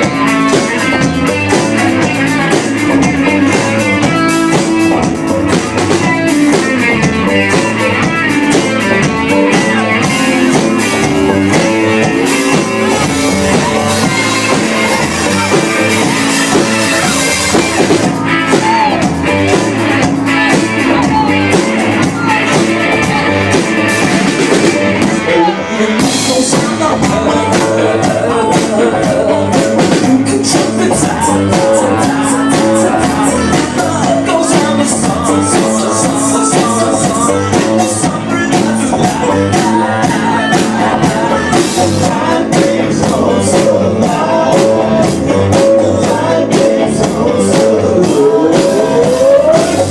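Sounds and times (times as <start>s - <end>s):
drum beat: 0.0s - 25.3s, 26.0s - 49.9s
guitar: 0.0s - 49.9s
live rock band playing: 0.0s - 49.9s.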